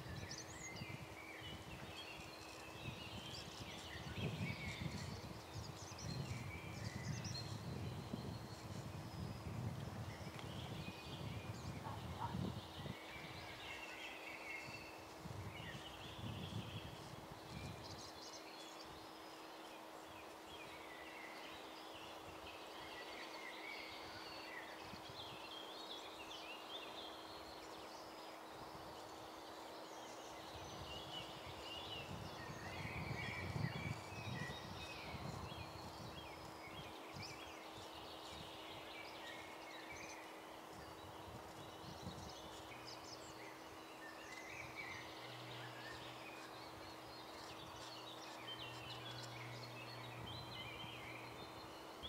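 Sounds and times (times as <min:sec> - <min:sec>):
wild birds singing: 0:00.0 - 0:52.0.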